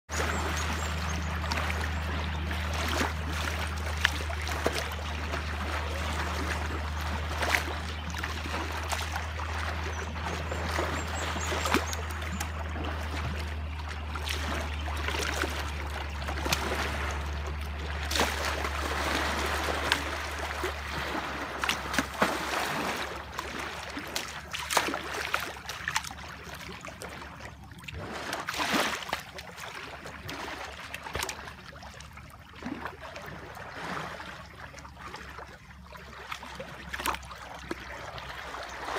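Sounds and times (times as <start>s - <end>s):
elephants splashing in water: 0.1s - 38.9s
steady low hum: 0.1s - 38.9s.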